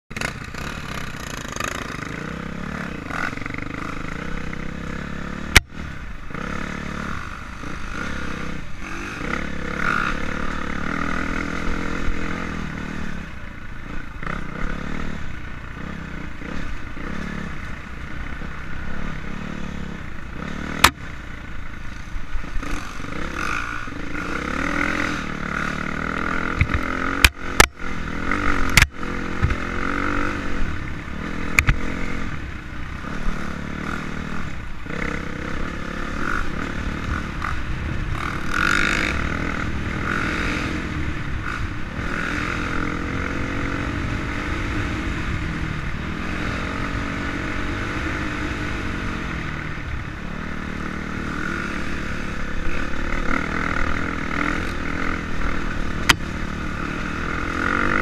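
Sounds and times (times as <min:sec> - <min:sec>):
dirt bike engine revving: 0:00.1 - 0:58.0.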